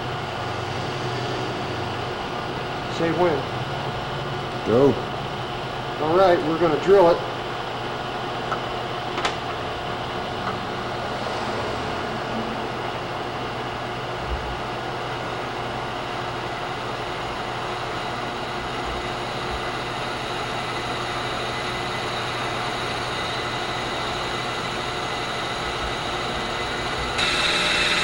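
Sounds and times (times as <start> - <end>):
milling machine humming: 0.0 - 28.0.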